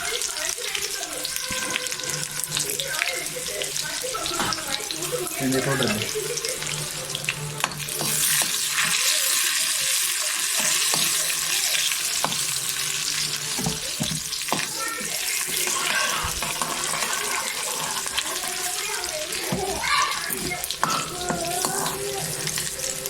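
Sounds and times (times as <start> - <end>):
leaves and onion sizzling in oil: 0.0 - 23.0.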